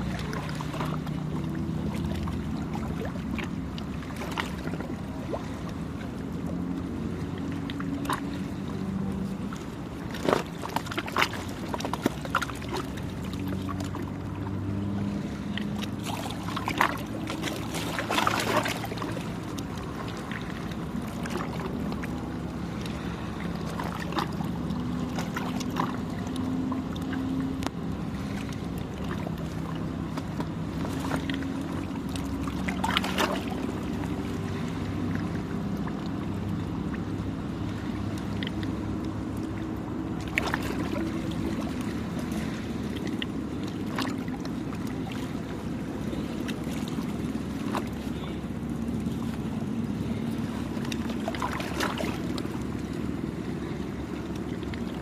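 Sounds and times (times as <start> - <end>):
low engine hum: 0.0 - 55.0
waves lapping at shore: 0.0 - 55.0.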